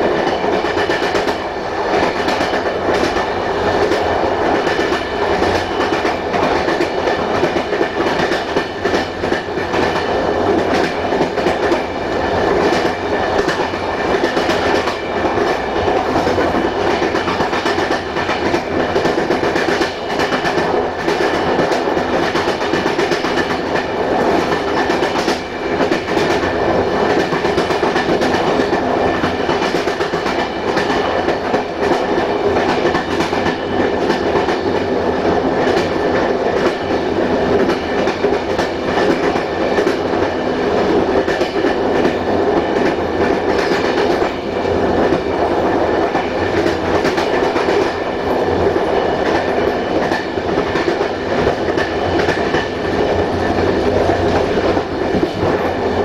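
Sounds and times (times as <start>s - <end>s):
rail joint clicks: 0.0s - 56.0s
train wheels rumbling on rails: 0.0s - 56.0s.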